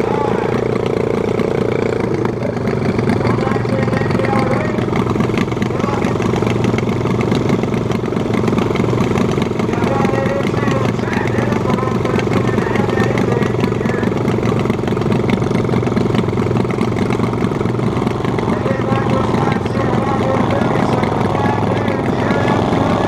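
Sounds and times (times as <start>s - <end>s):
riding lawn mower engine running: 0.0s - 23.0s.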